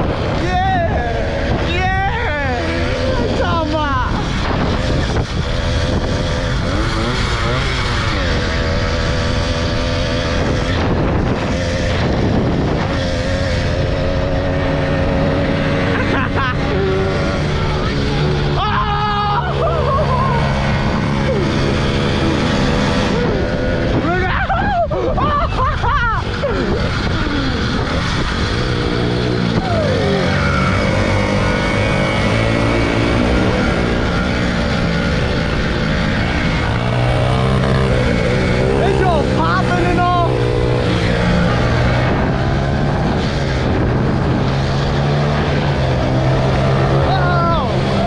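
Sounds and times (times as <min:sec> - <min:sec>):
wind on microphone: 0:00.0 - 0:18.6, 0:20.0 - 0:48.0
small motorbike engine running: 0:00.0 - 0:48.0.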